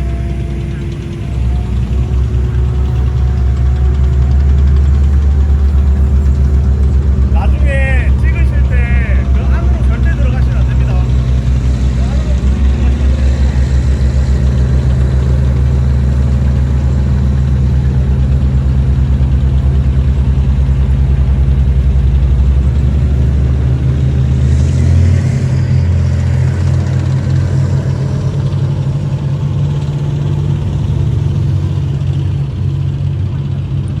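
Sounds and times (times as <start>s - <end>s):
large vehicle engine running: 0.0s - 34.0s.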